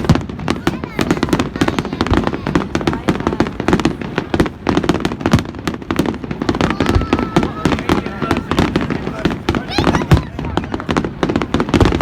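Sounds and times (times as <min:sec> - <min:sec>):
fireworks crackling bangs: 0:00.0 - 0:12.0
voices: 0:00.0 - 0:12.0.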